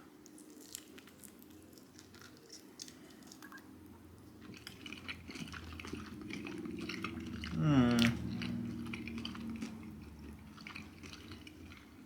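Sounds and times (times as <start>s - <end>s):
faint chewing: 0.2s - 12.0s.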